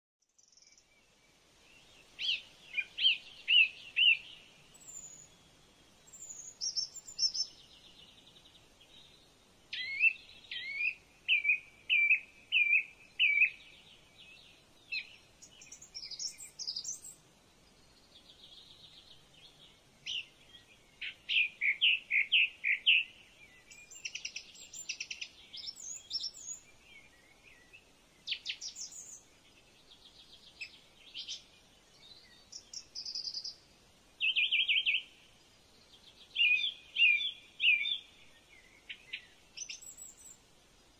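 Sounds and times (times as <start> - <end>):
birds chirping: 0.3 - 40.9.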